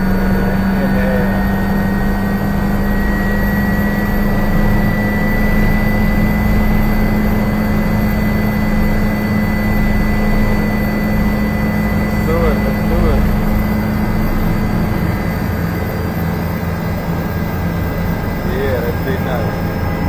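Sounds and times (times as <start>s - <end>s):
helicopter engine and rotor drone: 0.0s - 20.0s
high steady whine: 0.0s - 20.0s.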